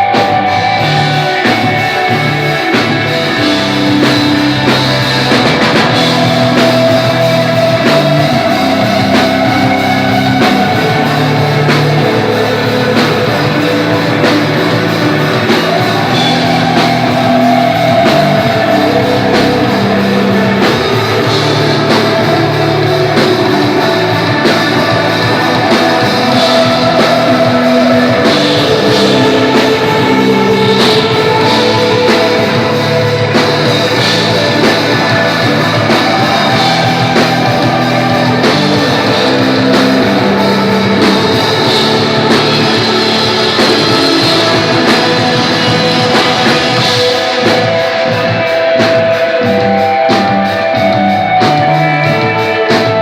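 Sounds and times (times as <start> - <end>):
drum kit beat: 0.0 - 53.0
electric guitar: 0.0 - 53.0.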